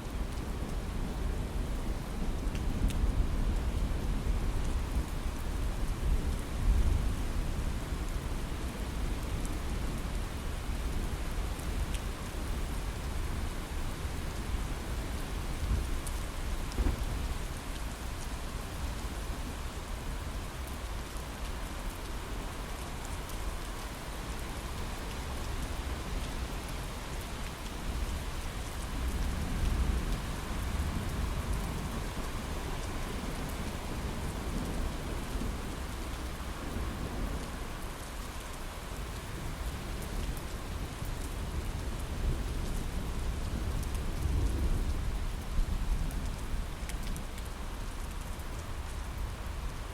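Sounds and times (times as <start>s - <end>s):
heavy rain on a window: 0.0s - 49.9s.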